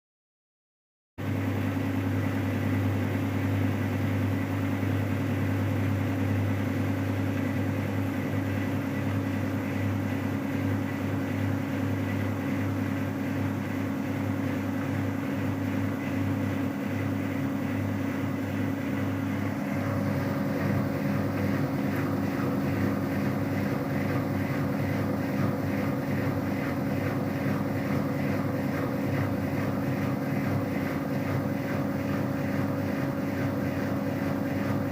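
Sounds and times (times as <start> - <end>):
washing machine spinning: 1.2 - 34.9.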